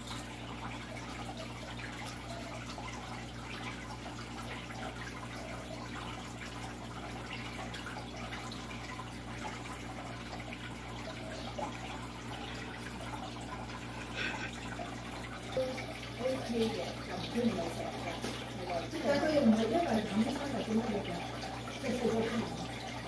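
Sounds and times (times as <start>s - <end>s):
aquarium water trickling and bubbling: 0.0s - 23.0s.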